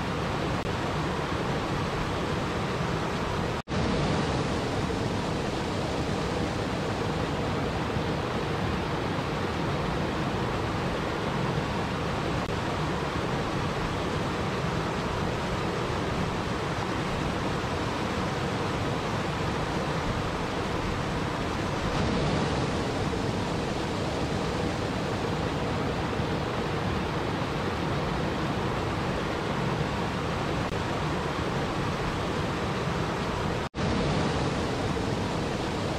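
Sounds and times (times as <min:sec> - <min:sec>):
small waterfall over rocks: 0:00.0 - 0:35.9.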